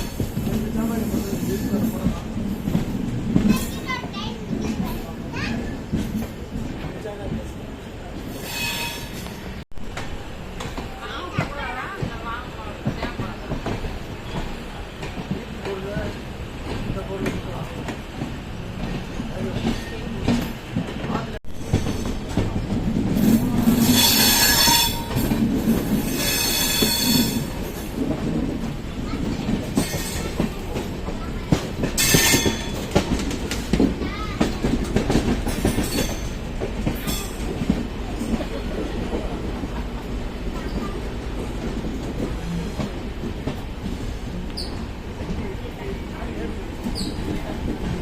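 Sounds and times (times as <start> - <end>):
train rumbling with wheel clicks: 0.0 - 8.4, 9.0 - 48.0.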